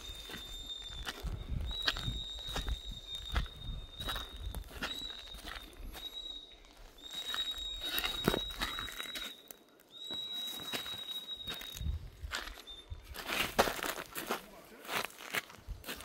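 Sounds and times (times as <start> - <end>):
high whistling tone: 0.0 - 13.6
footsteps on gravel: 0.0 - 16.0.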